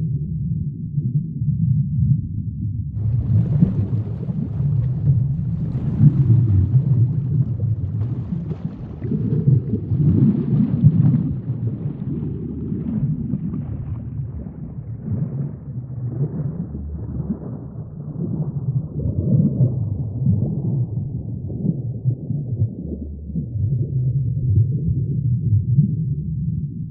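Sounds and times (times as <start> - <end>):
underwater rumble of moving water: 0.0 - 26.9.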